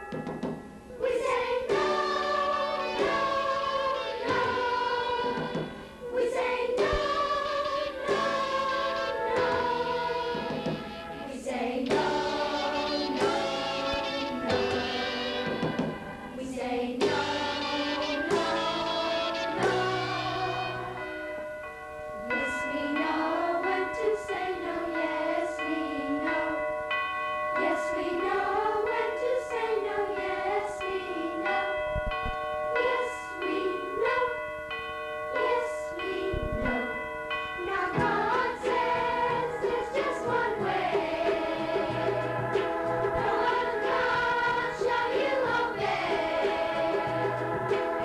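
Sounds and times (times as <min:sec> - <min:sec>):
choir singing: 0:00.9 - 0:21.3, 0:22.2 - 0:26.7, 0:27.6 - 0:31.8, 0:32.7 - 0:34.6, 0:35.3 - 0:37.0, 0:37.6 - 0:48.0.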